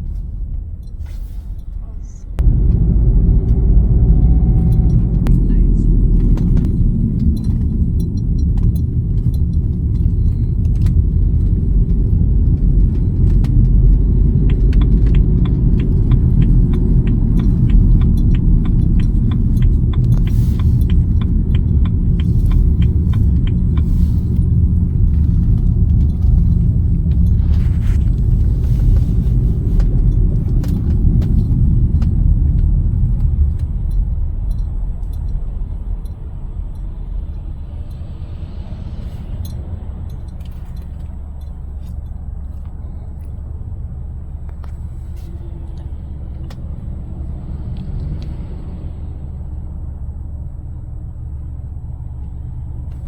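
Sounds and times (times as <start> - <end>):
road and engine rumble: 0.0 - 53.0.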